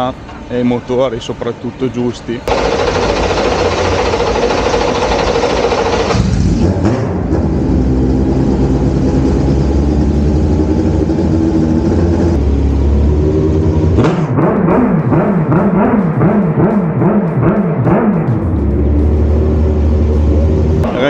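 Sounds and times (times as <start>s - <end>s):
race car engine: 2.4s - 21.0s.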